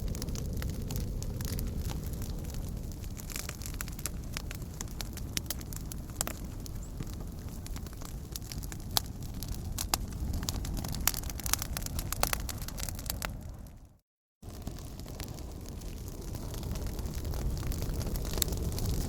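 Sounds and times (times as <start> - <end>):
log fire crackling: 0.0 - 19.0
low fire rumble: 0.0 - 19.0.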